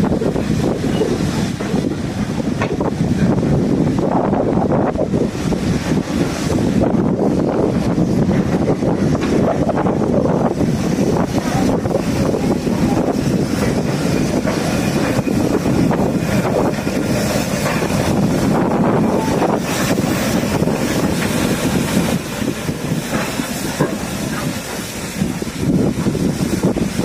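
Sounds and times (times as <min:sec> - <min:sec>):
steam locomotive hissing: 0:00.0 - 0:27.0
train wheels clacking on rails: 0:00.0 - 0:27.0.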